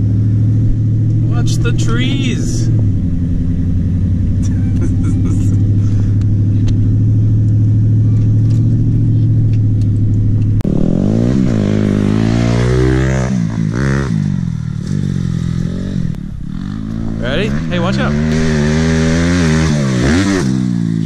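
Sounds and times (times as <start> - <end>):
dirt bike engine revving: 0.0 - 9.3, 10.6 - 21.0
pickup engine droning: 0.0 - 21.0.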